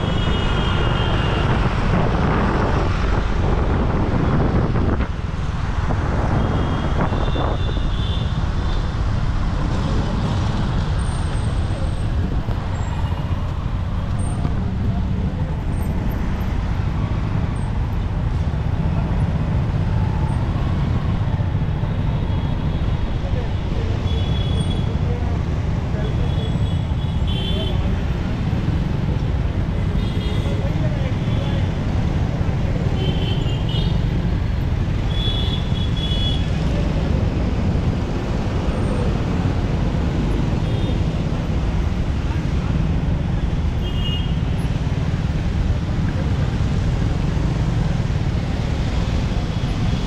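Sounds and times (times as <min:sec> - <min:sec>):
dense city traffic rumble: 0:00.0 - 0:50.0.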